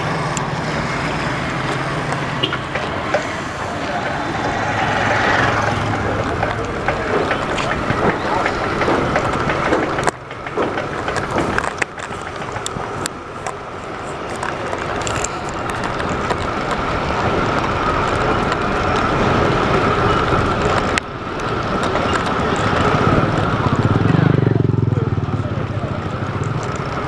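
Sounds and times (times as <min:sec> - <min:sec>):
tyre rumble on dirt road: 0:00.0 - 0:27.0.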